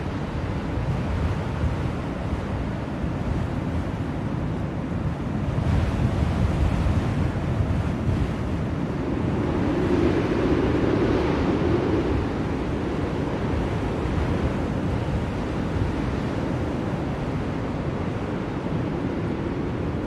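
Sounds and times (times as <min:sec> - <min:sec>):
blizzard wind blowing: 0:00.0 - 0:20.0.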